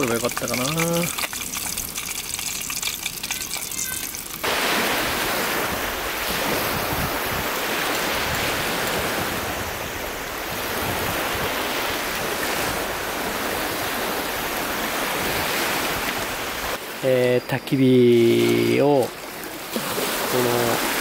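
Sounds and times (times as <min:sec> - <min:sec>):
waves lapping on gravel shore: 0:00.0 - 0:16.8, 0:18.3 - 0:21.0.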